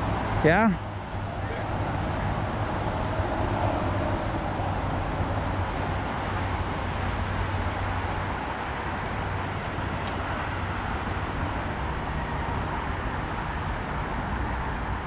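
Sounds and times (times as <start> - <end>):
highway traffic rushing: 0.0 - 15.0.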